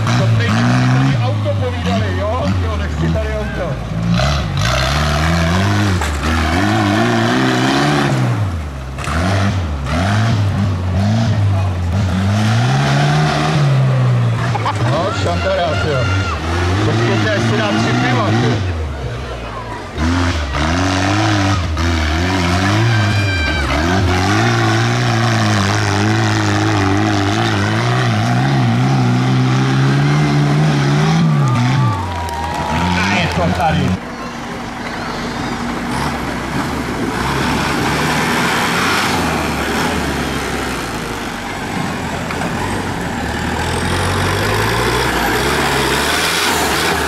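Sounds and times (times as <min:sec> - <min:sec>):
tractor engine revving: 0:00.0 - 0:47.0.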